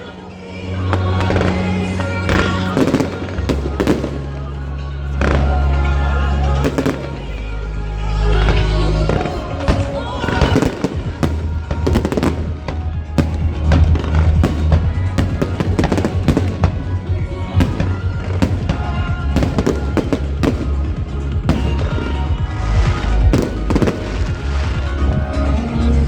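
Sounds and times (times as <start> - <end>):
hip-hop music with deep bass: 0.0 - 26.0
fireworks bangs and crackles: 0.9 - 25.6.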